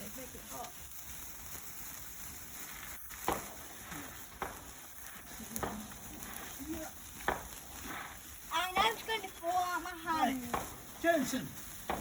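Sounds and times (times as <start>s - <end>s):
sparkler fizzing: 0.0s - 12.0s
sharp pops: 0.6s - 12.0s.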